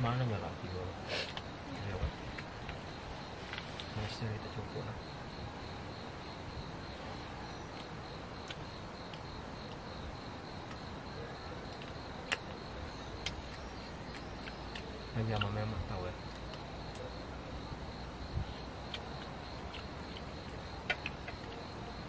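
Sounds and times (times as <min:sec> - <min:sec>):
background hiss: 0:00.0 - 0:22.0
insects trilling: 0:00.0 - 0:22.0.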